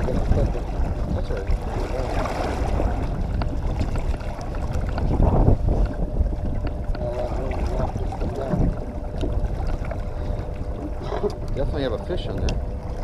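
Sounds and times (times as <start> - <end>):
boat motor running: 0.0 - 13.0
wind buffeting microphone: 0.0 - 13.0.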